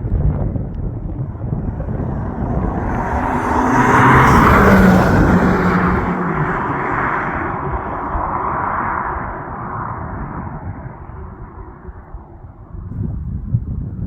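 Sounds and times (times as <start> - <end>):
car exhaust rumble: 0.0 - 14.0.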